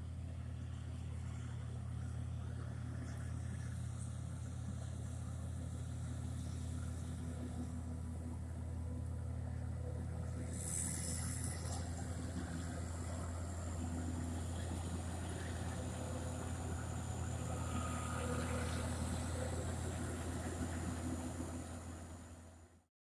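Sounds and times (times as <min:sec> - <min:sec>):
faint high whine: 0:00.0 - 0:22.8
farm machinery engine droning: 0:00.0 - 0:22.9.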